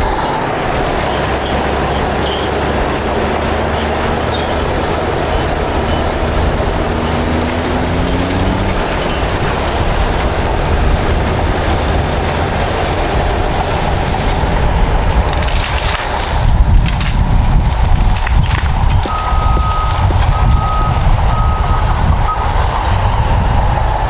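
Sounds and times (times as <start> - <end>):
metallic track clatter: 0.0 - 21.9
heavy diesel engines rumbling: 0.0 - 24.0.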